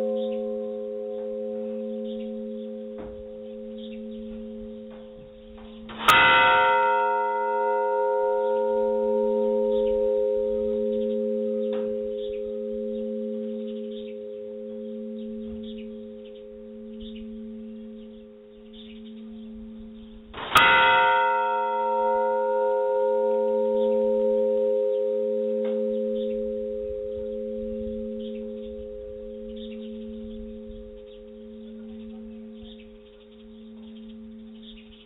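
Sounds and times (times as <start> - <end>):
large church bell ringing: 0.0 - 35.0.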